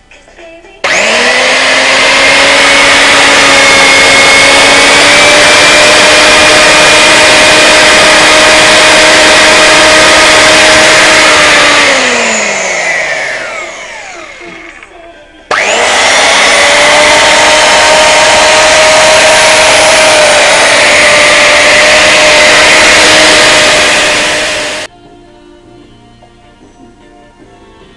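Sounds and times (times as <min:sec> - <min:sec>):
electric chainsaw motor whining: 0:00.8 - 0:24.9.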